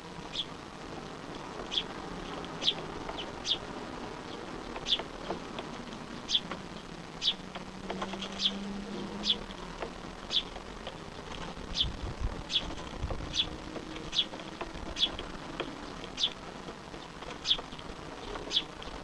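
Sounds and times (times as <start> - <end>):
small bird chirping: 0.2 - 0.6, 1.5 - 9.5, 10.1 - 19.0.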